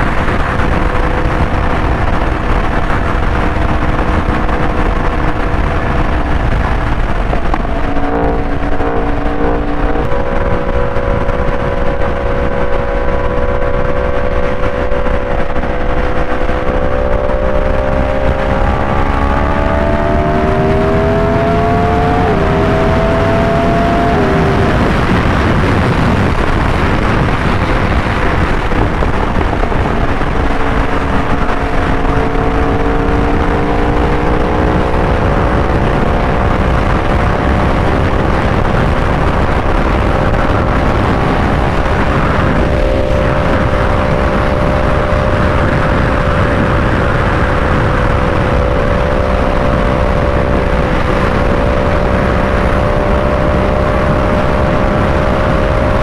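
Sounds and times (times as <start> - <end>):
truck passing: 0.0 - 52.4
motorcycle engine cruising: 0.0 - 56.0
wind rush on microphone: 0.0 - 56.0.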